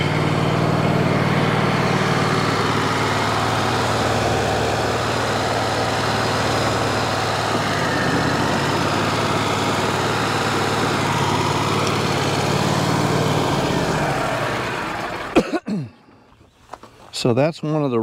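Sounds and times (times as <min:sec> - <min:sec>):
sawmill engine running: 0:00.0 - 0:15.6.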